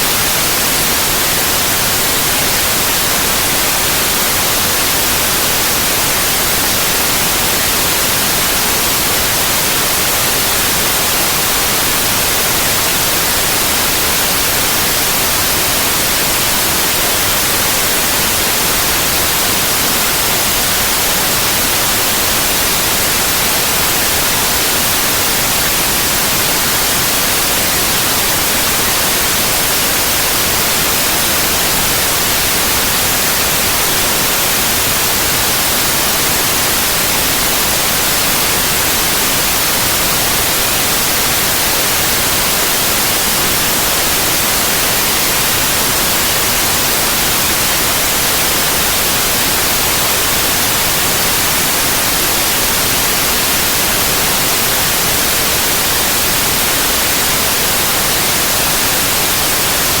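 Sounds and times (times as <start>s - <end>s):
white noise hiss: 0.0s - 60.0s.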